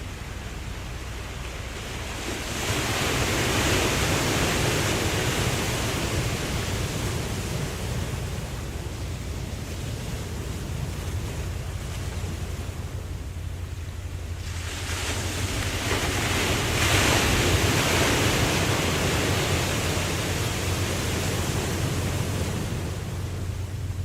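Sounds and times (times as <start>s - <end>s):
ocean wave breaking: 0.0s - 24.0s
steady wash of sea: 0.0s - 24.0s.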